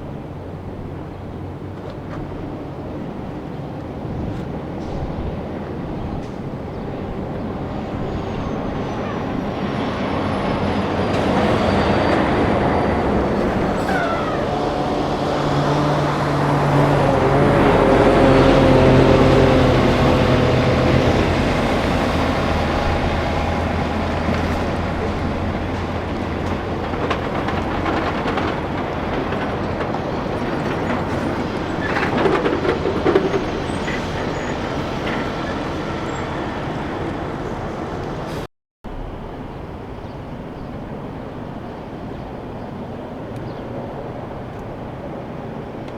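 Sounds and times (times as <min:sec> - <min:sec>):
heavy diesel vehicle passing: 0:00.0 - 0:45.9.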